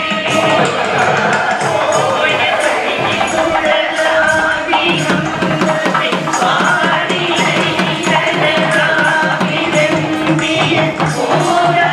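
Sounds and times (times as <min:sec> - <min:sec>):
drums playing fast beat: 0:00.0 - 0:11.9.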